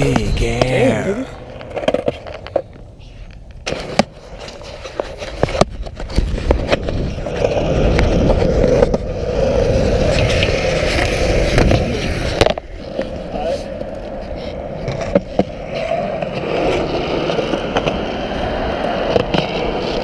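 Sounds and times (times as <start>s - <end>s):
skateboard wheels rolling on concrete: 0.0s - 20.0s.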